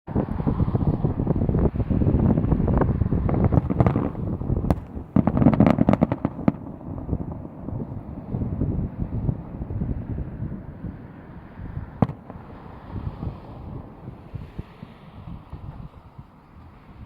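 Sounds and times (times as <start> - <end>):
fireworks bangs and crackles: 0.1 - 17.0
wind noise on microphone: 0.1 - 17.0.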